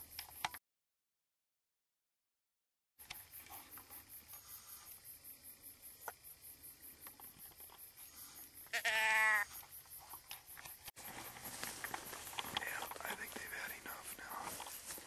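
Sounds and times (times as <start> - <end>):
crickets chirping: 0.0 - 0.6, 3.0 - 15.0.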